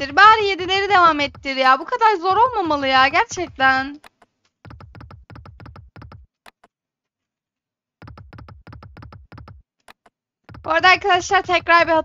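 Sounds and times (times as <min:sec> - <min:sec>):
rapid electronic ticking: 0:00.0 - 0:06.3, 0:08.0 - 0:12.0.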